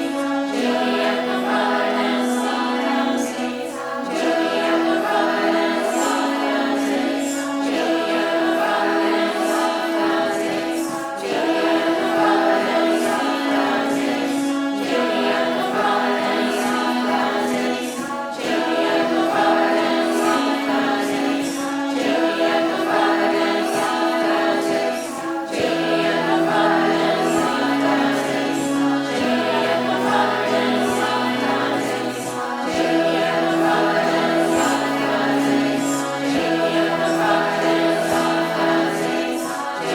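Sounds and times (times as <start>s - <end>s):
choir singing held chords: 0.0s - 39.9s.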